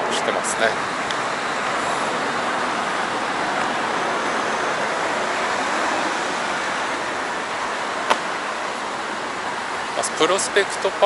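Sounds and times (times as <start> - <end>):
road traffic hiss: 0.0 - 11.0.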